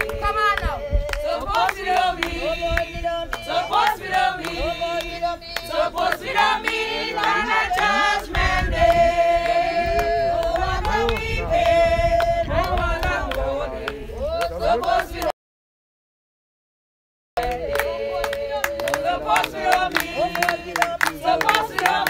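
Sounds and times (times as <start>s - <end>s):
group singing a hymn: 0.0s - 15.3s, 17.4s - 22.0s.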